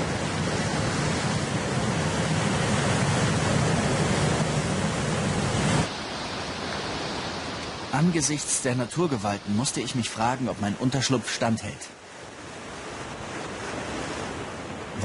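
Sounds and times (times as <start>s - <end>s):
distant sea rushing: 0.0s - 15.0s
surf breaking over rocks: 0.0s - 15.0s.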